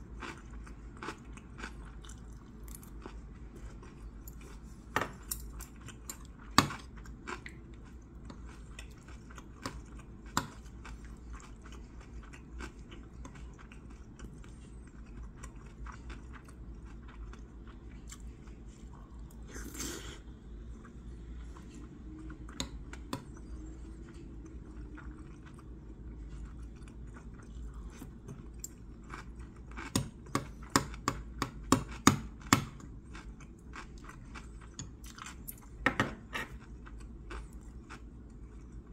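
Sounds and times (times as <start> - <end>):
chewing food: 0.0 - 19.8, 20.4 - 38.9.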